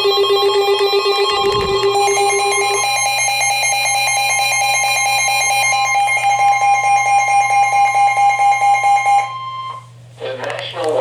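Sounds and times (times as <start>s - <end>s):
two-tone alert alarm: 0.0s - 9.9s.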